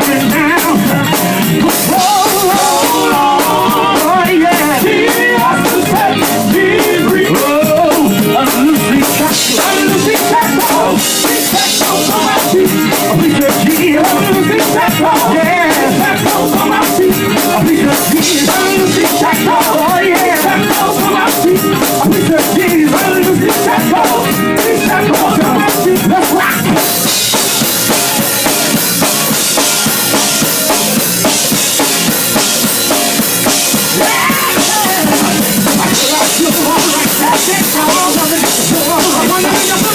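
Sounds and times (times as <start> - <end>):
band with busy drum kit: 0.0 - 39.9
male vocal group singing gospel: 0.0 - 39.9.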